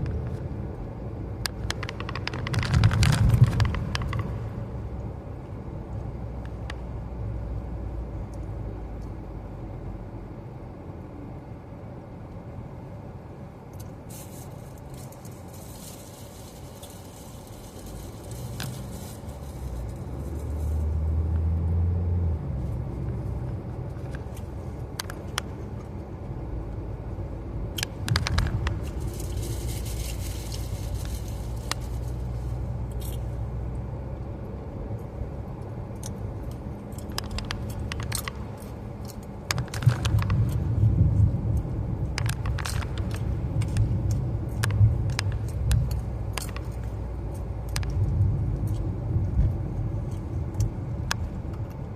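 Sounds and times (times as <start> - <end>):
road and engine rumble: 0.0 - 51.9.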